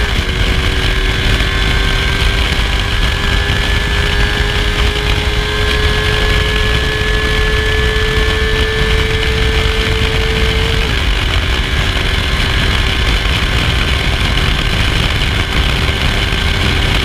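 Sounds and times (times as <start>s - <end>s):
engine whine: 0.0s - 17.0s
motorcycle engine running: 0.0s - 17.0s.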